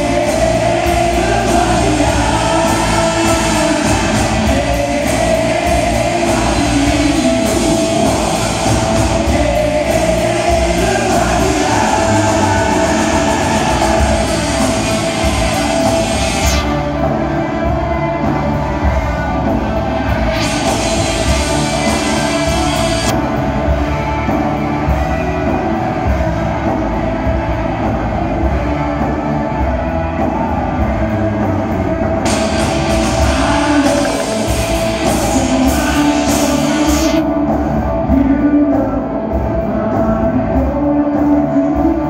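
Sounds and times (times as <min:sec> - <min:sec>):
person singing: 0:00.0 - 0:26.3, 0:28.5 - 0:42.0
live rock band playing: 0:00.0 - 0:42.0.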